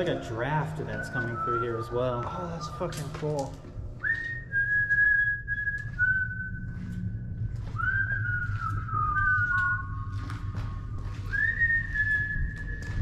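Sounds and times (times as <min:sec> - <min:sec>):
person whistling a slow tune: 0:00.6 - 0:13.0.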